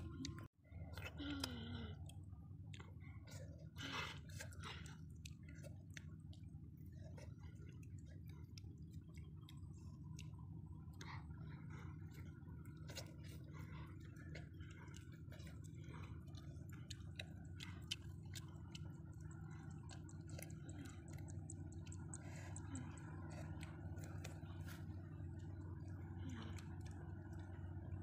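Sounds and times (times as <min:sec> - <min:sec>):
person chewing and lip-smacking: 0:00.0 - 0:28.0
steady low hum: 0:00.0 - 0:28.0.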